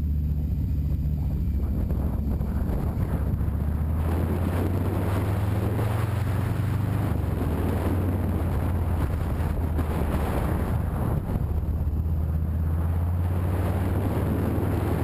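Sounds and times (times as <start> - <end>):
motorcycle engine running: 0.0 - 15.0
wind buffeting microphone: 0.2 - 15.0.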